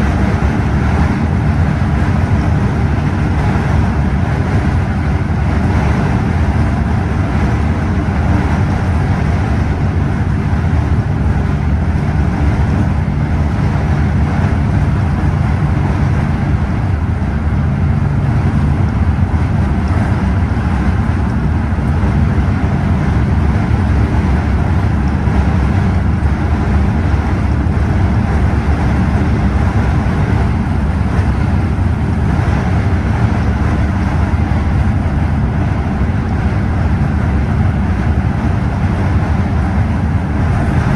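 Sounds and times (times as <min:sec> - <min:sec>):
coach engine drone: 0:00.0 - 0:40.9
tyre and road noise: 0:00.0 - 0:40.9.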